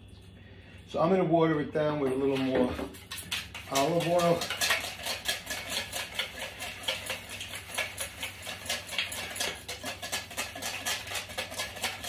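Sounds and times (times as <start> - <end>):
whisk beating in a bowl: 2.3 - 12.0.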